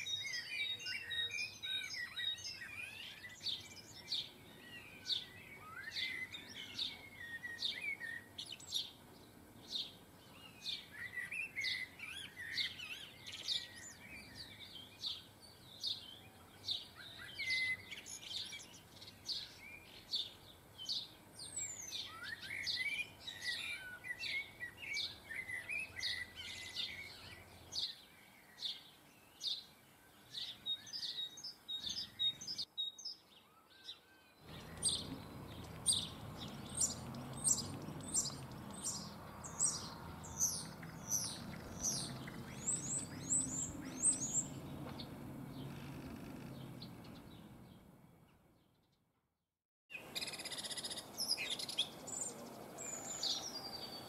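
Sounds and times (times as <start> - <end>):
low background noise: 0.0 - 48.6
songbirds chirping: 0.0 - 49.1, 49.9 - 54.0.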